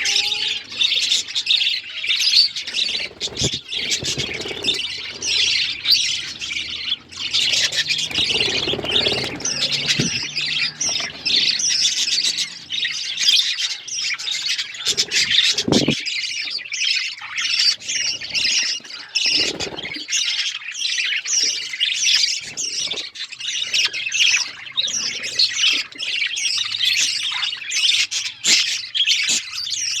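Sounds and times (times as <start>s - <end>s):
bird squawks: 0.0s - 30.0s
budgerigars chirping: 0.0s - 30.0s.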